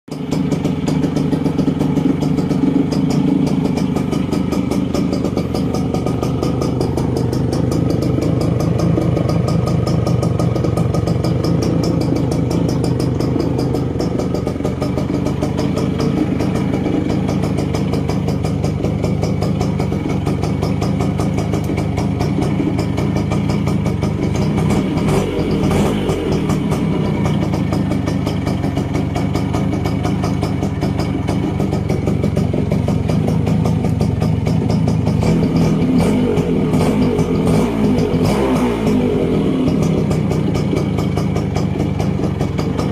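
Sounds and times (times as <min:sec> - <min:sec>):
motorcycle engine idling: 0:00.1 - 0:42.9.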